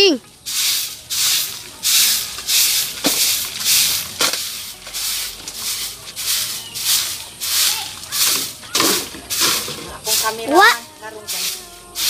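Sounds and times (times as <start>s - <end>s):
stick broom sweeping dirt: 0.2s - 12.0s.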